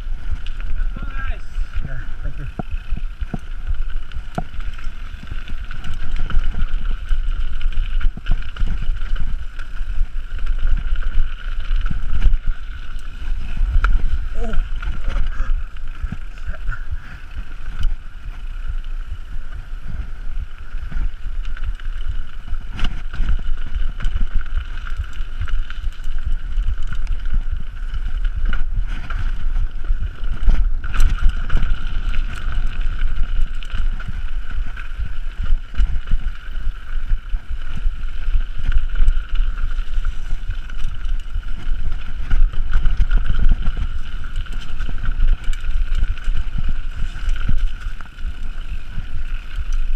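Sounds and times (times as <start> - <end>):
bike tyre and suspension rumble: 0.0 - 49.9.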